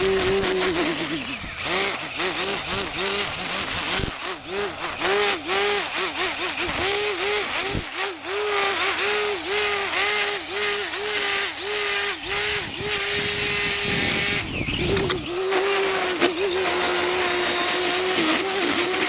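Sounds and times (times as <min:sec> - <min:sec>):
string trimmer cutting grass: 0:00.0 - 0:19.0.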